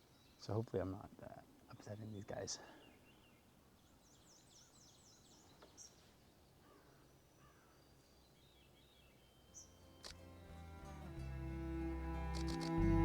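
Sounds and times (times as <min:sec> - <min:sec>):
birds calling faintly: 0:00.0 - 0:13.0.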